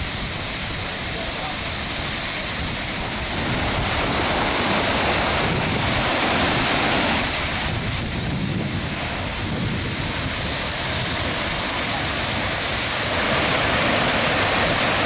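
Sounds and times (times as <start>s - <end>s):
waves breaking on beach: 0.0s - 15.0s
wind rumbling on microphone: 0.0s - 15.0s.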